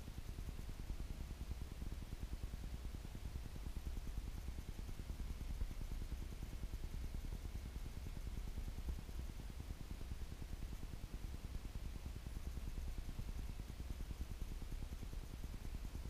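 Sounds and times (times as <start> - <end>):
faint room hiss: 0.0 - 16.0.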